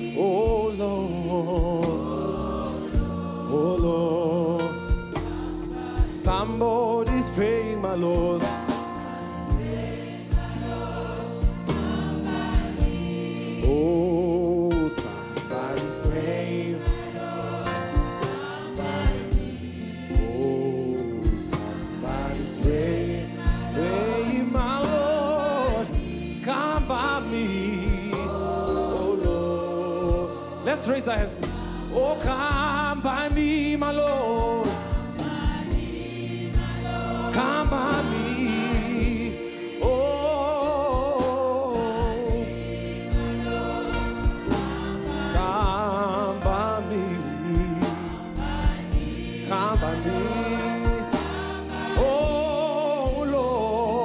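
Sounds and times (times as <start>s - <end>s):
man singing a hymn: 0.0s - 5.3s, 6.0s - 9.0s, 12.8s - 17.5s, 18.7s - 35.2s, 36.8s - 42.6s, 44.0s - 54.0s.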